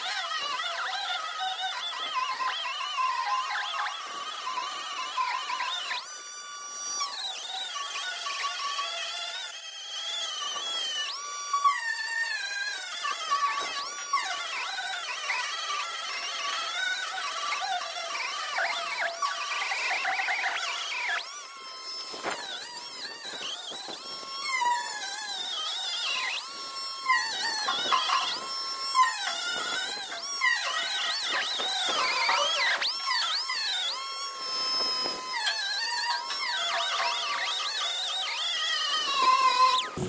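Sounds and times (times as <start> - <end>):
power tool grinding metal: 0.0 - 40.0.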